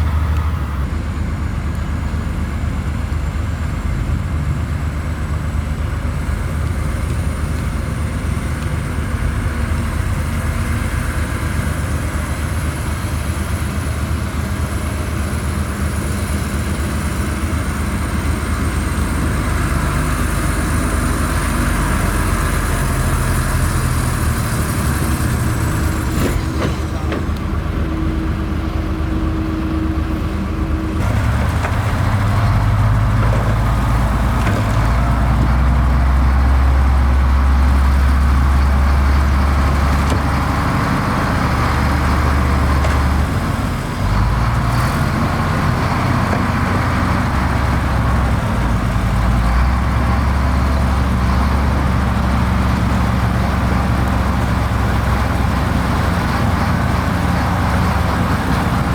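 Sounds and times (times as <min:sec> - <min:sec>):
diesel engine rumbling: 0:00.0 - 0:58.9.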